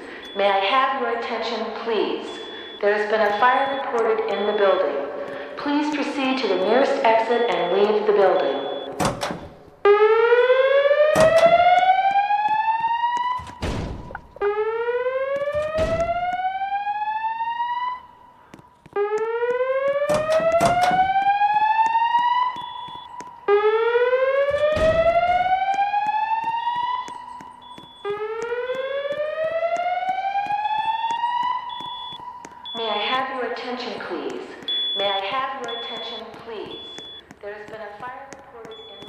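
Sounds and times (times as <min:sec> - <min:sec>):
fire alarm whoop tone: 0:00.0 - 0:39.0.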